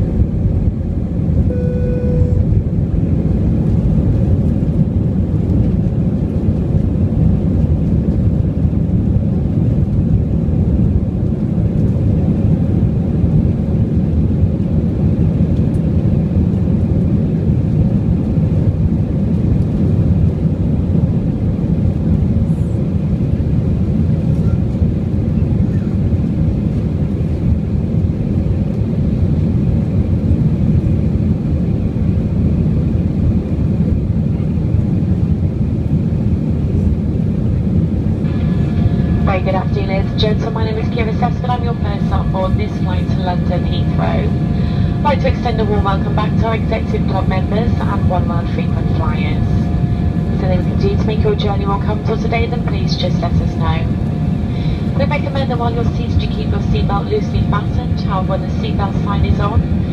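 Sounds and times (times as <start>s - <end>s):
jet engine and airflow roar in cabin: 0.0s - 59.9s.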